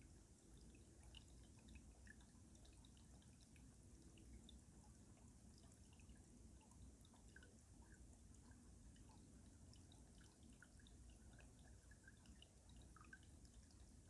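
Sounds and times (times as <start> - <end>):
water dripping and trickling: 0.0 - 14.0.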